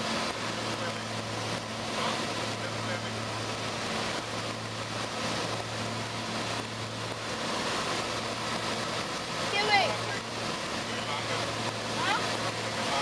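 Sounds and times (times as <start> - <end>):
aircraft engines humming: 0.0 - 13.0.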